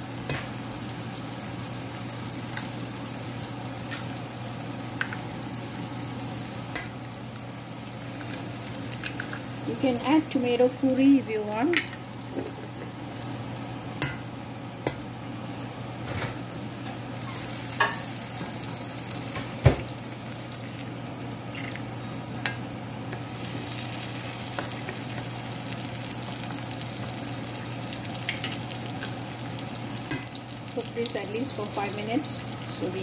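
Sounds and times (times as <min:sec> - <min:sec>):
food sizzling in a skillet: 0:00.0 - 0:33.0.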